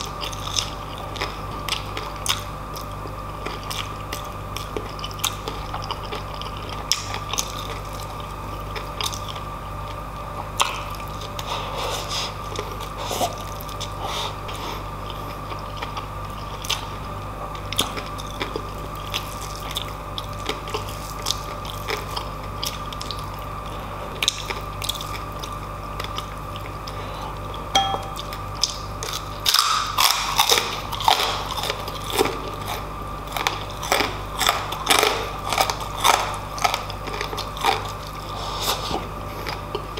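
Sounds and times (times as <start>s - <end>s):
chewing and crunching food: 0.0s - 39.9s
steady low hum: 0.0s - 39.9s.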